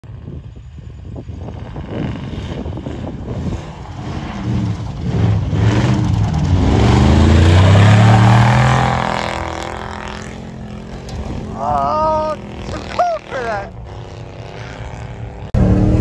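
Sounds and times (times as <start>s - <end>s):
tyres spinning through snow: 1.2s - 16.0s
truck engine revving: 1.7s - 16.0s.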